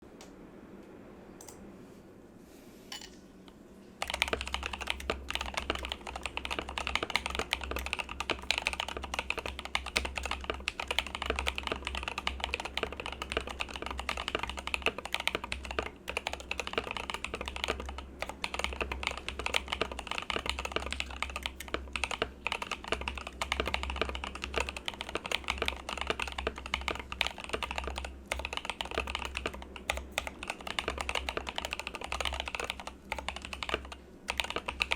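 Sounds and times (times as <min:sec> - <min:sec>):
mechanical keyboard typing: 0:04.0 - 0:34.9.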